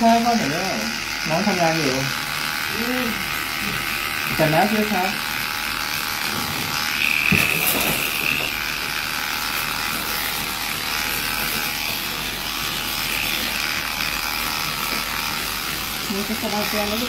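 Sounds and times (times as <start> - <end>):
electric clippers shaving fur: 0.0 - 17.0.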